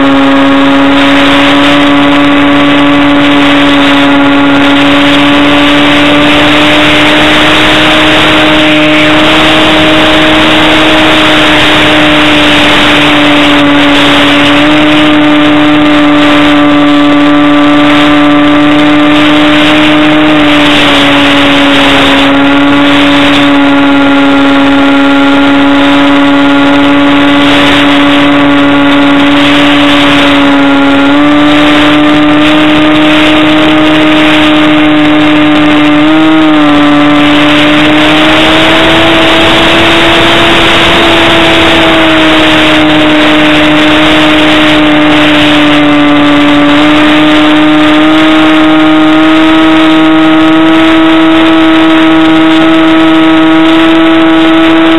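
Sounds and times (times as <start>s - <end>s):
motor and propeller whine: 0.0s - 54.9s.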